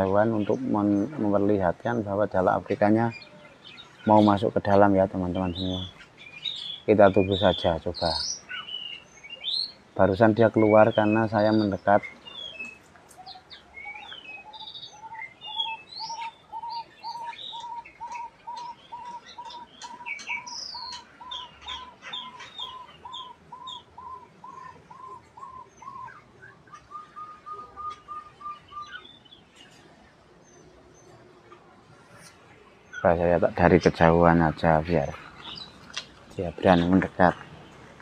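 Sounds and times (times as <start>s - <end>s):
birds chirping and twittering: 0.0s - 38.0s.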